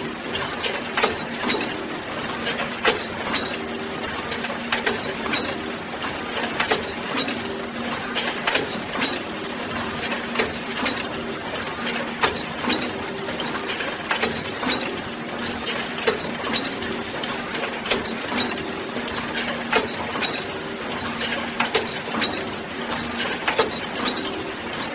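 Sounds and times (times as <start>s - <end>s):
sharp machine clacks: 0.2s - 24.9s.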